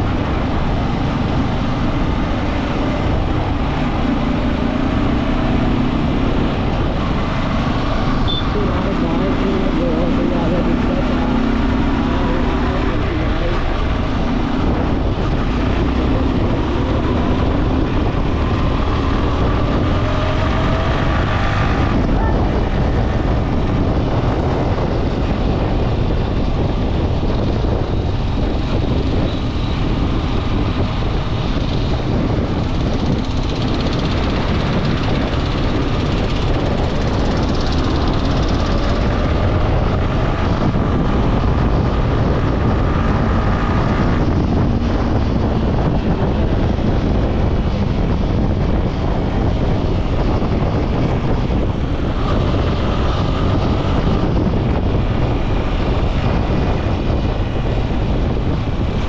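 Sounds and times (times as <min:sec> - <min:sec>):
motorcycle engine drone: 0:00.0 - 0:59.0
wind rush on microphone: 0:00.0 - 0:59.0.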